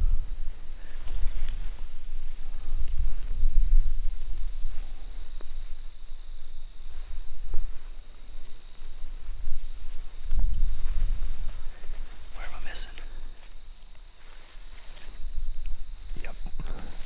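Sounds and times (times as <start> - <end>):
high-pitched insect chorus: 0.0 - 17.0
wind buffeting microphone: 0.0 - 17.0.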